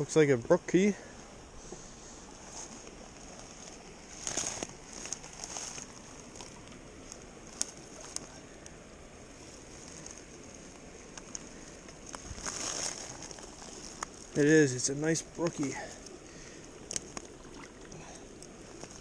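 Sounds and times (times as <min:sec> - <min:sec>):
faint steady hiss: 0:00.0 - 0:19.0
rustling in dry leaves: 0:01.1 - 0:19.0.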